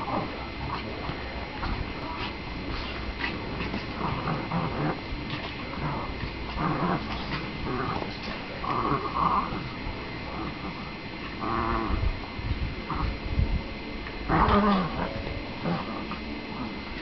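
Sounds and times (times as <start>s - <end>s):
dogs play growling: 0.0s - 17.0s.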